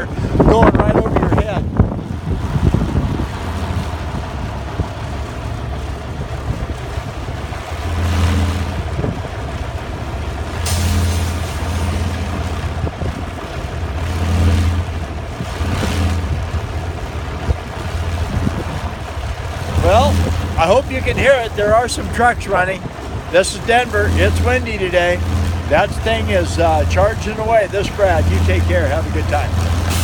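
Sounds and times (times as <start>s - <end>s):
wind turbine blades droning: 0.0s - 30.0s.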